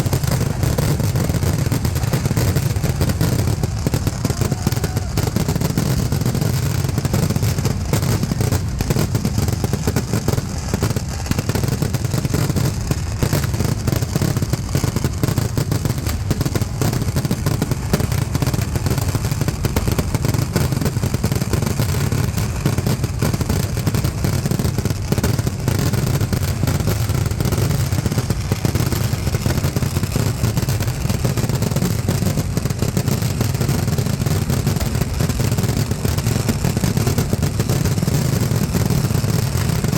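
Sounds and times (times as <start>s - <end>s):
firecrackers exploding rapidly: 0.0s - 39.9s.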